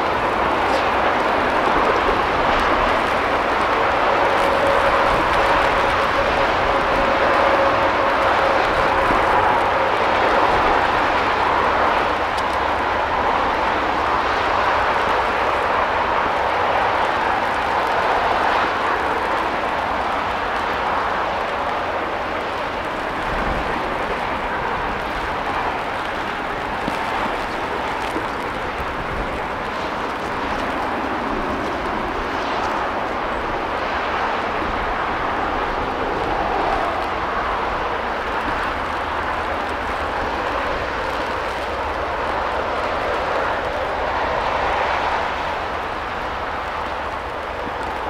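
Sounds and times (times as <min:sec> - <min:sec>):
steam locomotive exhaust roar: 0:00.0 - 0:48.0
wind noise: 0:00.0 - 0:48.0.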